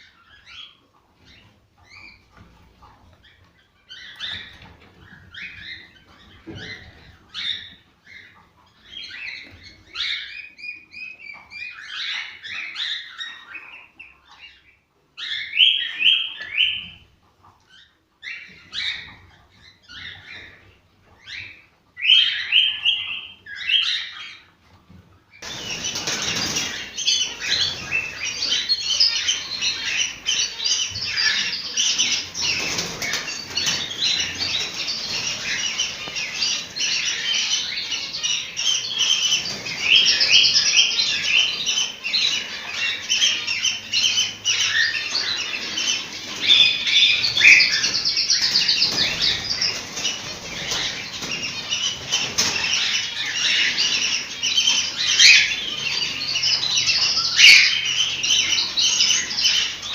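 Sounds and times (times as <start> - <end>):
cockatiels chirping: 0.0 - 24.5, 25.4 - 59.9.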